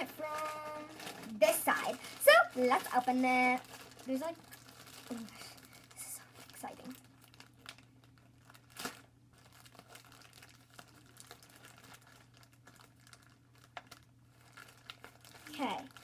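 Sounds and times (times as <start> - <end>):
plastic bag tearing and crinkling: 0.0 - 16.0.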